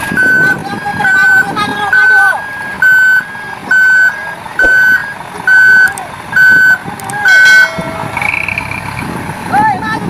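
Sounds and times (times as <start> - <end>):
reversing alarm beeping: 0.0 - 8.6.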